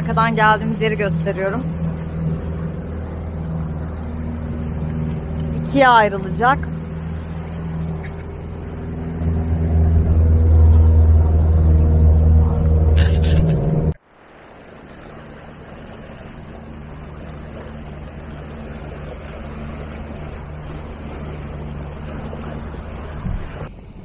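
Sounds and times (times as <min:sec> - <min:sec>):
outboard motor humming: 0:00.0 - 0:24.0
water noise: 0:00.0 - 0:24.0
wind noise: 0:00.0 - 0:24.0.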